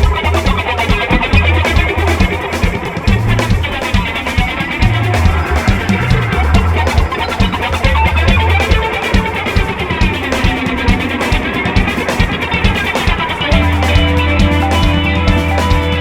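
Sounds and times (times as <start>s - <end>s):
guitar: 0.0s - 16.0s
steady drum beat: 0.0s - 16.0s.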